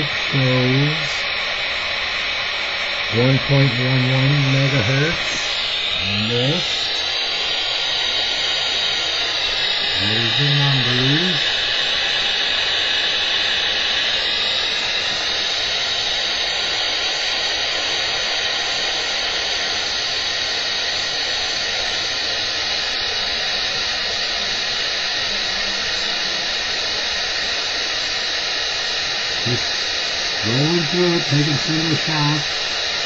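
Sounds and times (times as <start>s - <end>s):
detector alarm hiss: 0.0s - 33.0s.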